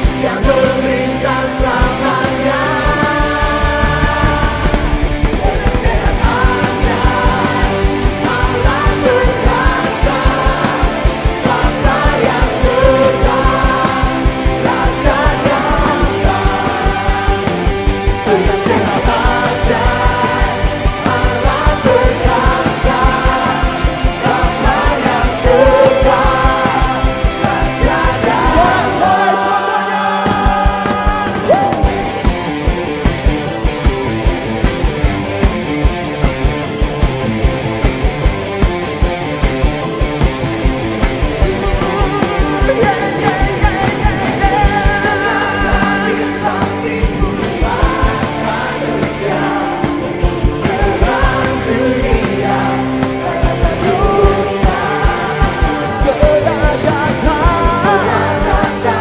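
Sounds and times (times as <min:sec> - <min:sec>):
person singing: 0:00.0 - 0:32.4, 0:41.2 - 0:59.0
bending lead melody: 0:00.0 - 0:59.0
rock worship band music: 0:00.0 - 0:59.0
steady drum beat: 0:00.0 - 0:59.0.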